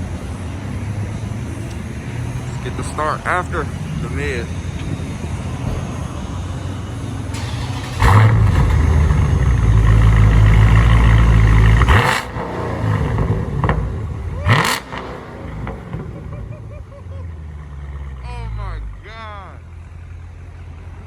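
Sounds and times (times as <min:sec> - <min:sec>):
car engine starting and revving: 0:00.0 - 0:19.0.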